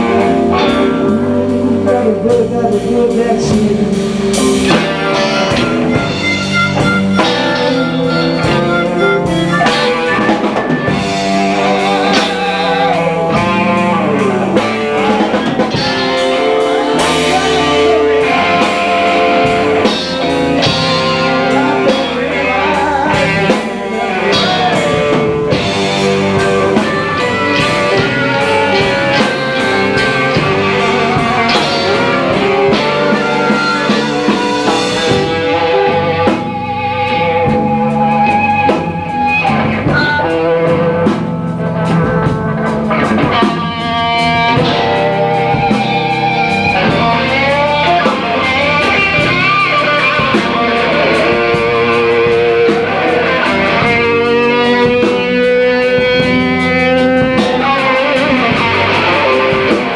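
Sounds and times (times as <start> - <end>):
blues band playing live: 0.0 - 59.9
electric guitar bent notes: 0.0 - 59.9.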